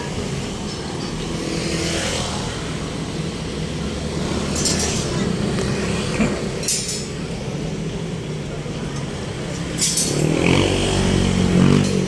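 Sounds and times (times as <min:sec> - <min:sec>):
passing vehicles engine rumble: 0:00.0 - 0:12.0.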